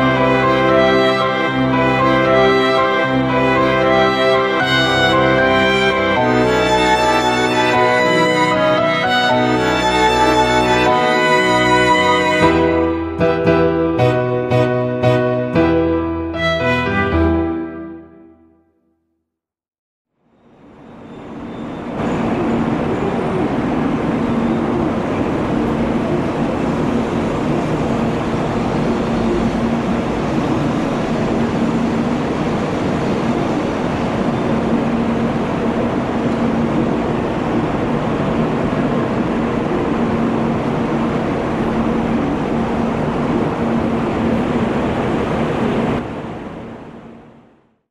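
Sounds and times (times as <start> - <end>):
train rushing past: 0.0 - 17.8, 20.2 - 47.7.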